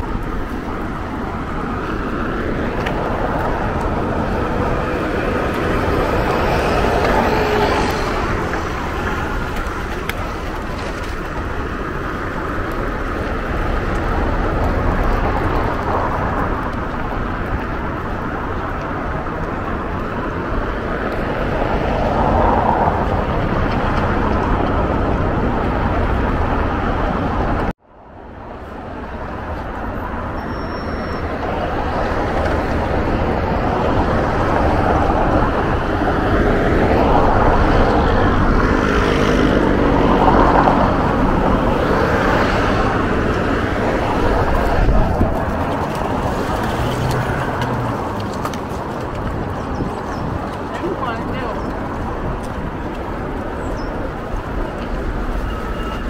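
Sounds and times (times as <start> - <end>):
city street traffic: 0.0 - 56.0
vehicles passing: 0.0 - 56.0.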